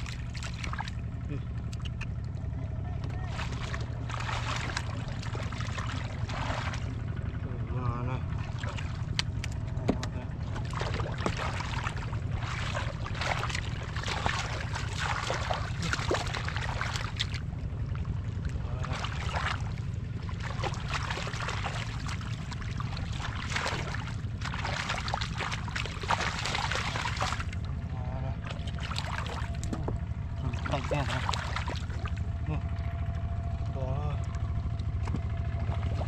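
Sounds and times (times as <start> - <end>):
splashing in muddy water: 0.0 - 36.0
steady low rumble: 0.0 - 36.0.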